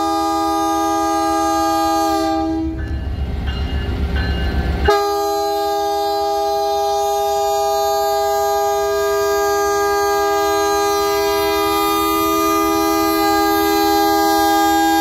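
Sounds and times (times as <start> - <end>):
locomotive air horn chord: 0.0 - 2.8, 4.9 - 15.0
train rumbling past: 0.0 - 15.0.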